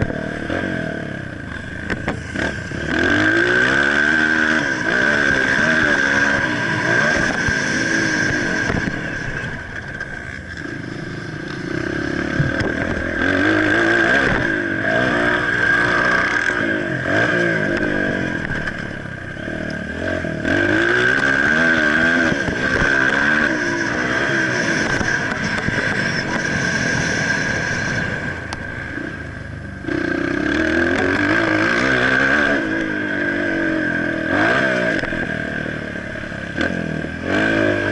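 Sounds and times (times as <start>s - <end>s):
motocross bike engine revving: 0.0s - 37.9s
steady high whine: 0.0s - 37.9s.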